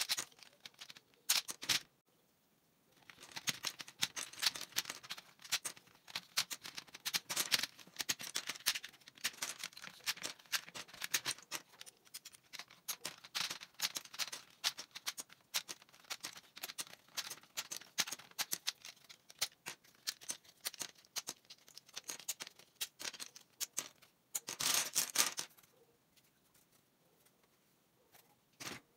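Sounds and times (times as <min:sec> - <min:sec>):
plastic keycaps clattering: 0:00.0 - 0:01.8, 0:03.0 - 0:25.7.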